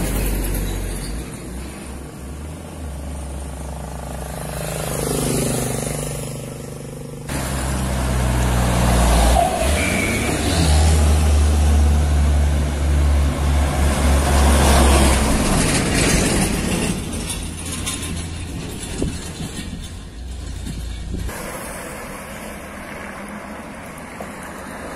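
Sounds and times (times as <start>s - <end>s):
truck engine passing by: 0.0s - 24.9s.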